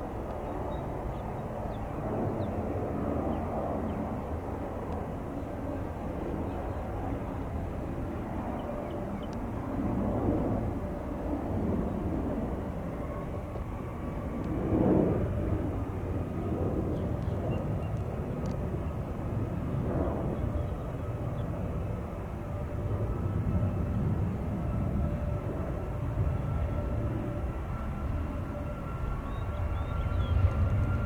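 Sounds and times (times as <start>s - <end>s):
distant jet engines rumbling: 0.0s - 31.0s.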